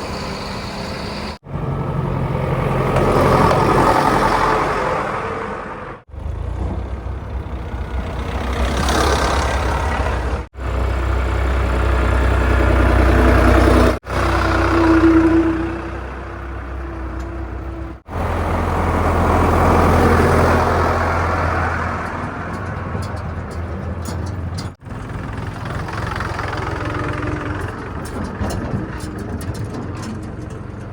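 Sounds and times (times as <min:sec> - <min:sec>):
heavy diesel engines running: 0:00.0 - 0:30.9.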